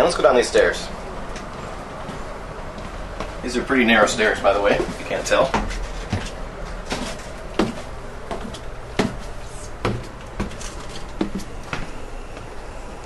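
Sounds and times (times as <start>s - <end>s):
train low hum: 0.0s - 13.0s
footsteps on stairs: 1.3s - 12.6s.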